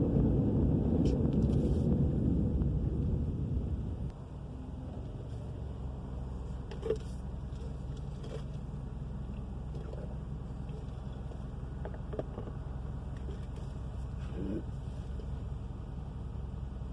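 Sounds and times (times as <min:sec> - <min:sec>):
low car drone from inside: 0:00.0 - 0:16.9.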